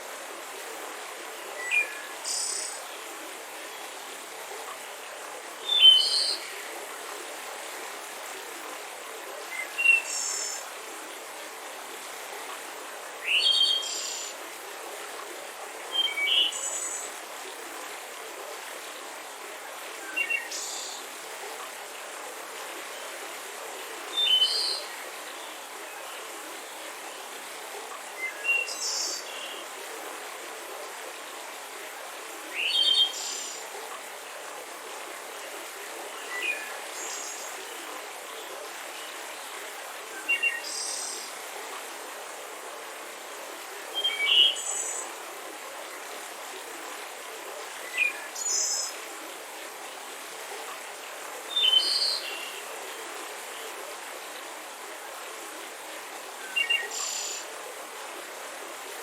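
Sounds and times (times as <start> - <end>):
mountain river flowing: 0.0 - 59.0.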